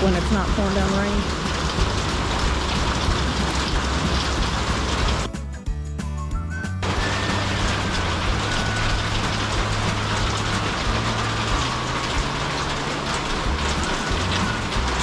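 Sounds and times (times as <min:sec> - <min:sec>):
rain on a metal roof: 0:00.0 - 0:05.4, 0:06.8 - 0:15.0.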